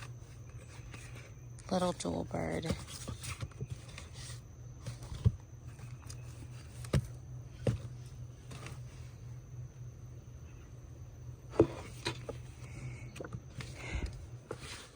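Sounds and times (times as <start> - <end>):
soft rustling of pages: 0.0 - 9.2, 11.6 - 14.9
steady low hum: 0.0 - 14.9.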